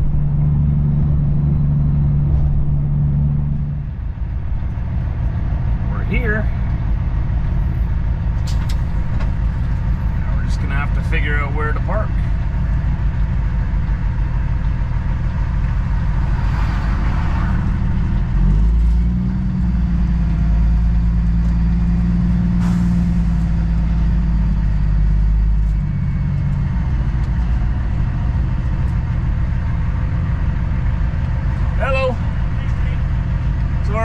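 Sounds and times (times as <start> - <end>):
truck diesel engine droning: 0.0 - 34.0.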